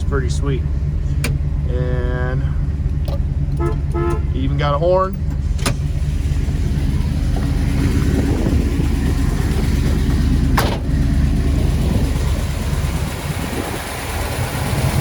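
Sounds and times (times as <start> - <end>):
car engine idling with low rumble: 0.0 - 15.0.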